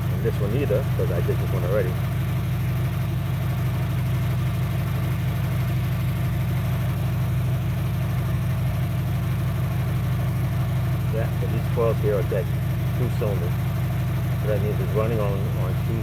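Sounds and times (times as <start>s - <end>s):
car engine idling rough: 0.0s - 16.0s.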